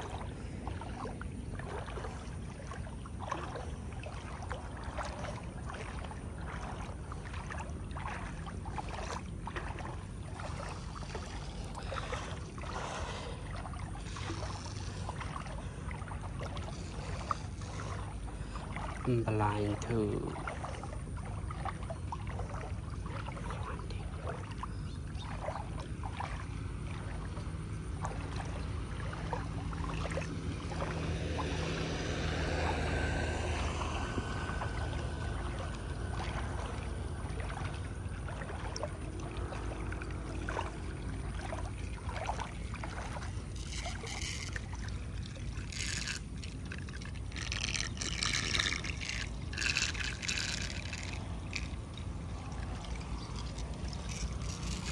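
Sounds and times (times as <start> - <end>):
water splashing from wading: 0.0 - 54.9.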